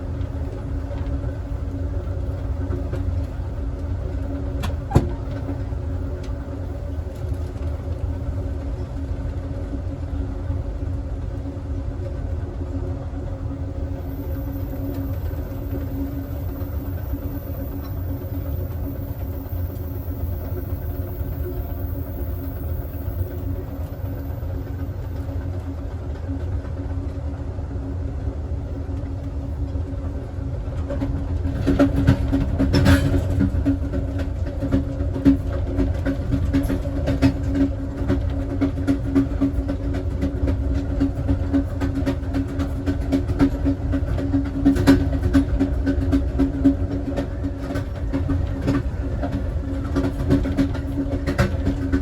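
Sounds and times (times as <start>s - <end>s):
train rumbling at speed: 0.0s - 52.0s.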